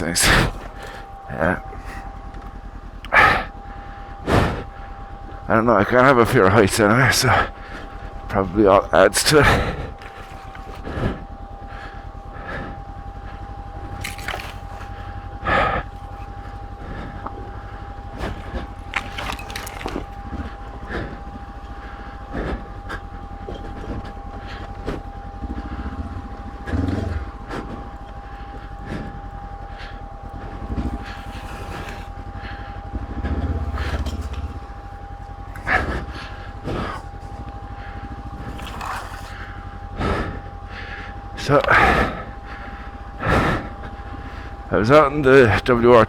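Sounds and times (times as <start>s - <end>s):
knocks and cracks over rough trail: 0.0s - 44.5s
motorcycle engine at low revs: 0.0s - 46.0s.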